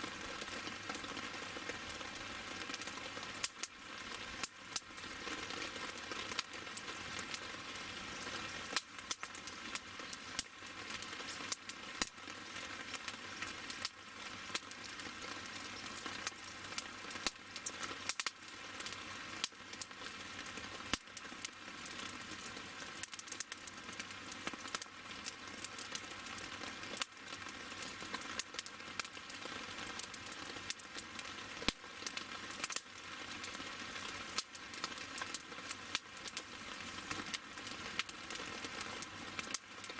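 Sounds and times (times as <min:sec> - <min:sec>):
steady hiss: 0:00.0 - 0:39.9
wood fire crackling: 0:00.0 - 0:39.9.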